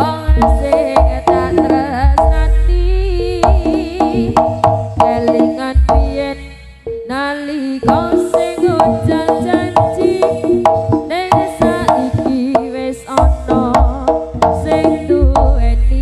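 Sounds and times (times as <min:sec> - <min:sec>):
hand drum strokes: 0:00.0 - 0:06.3, 0:07.8 - 0:15.8
gamelan music over loudspeakers: 0:00.0 - 0:16.0.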